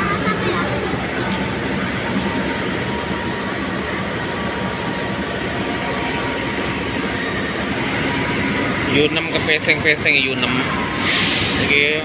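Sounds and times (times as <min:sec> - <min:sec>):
train rumbling and hissing: 0:00.0 - 0:12.0.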